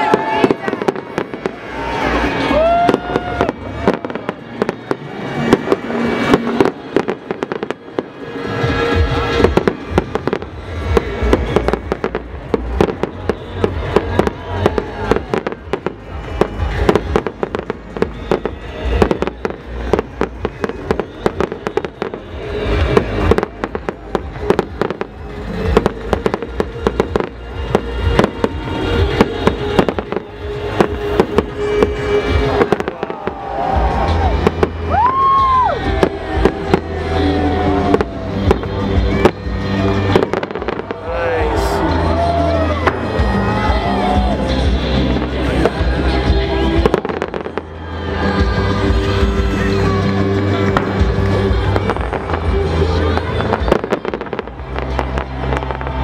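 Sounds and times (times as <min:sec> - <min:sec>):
fireworks bursting and crackling: 0:00.0 - 0:56.0
music: 0:00.0 - 0:56.0.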